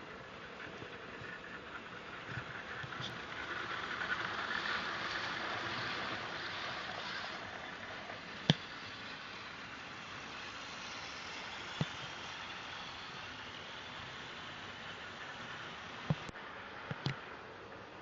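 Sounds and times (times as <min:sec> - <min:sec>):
model train whirring on track: 0:00.0 - 0:18.0.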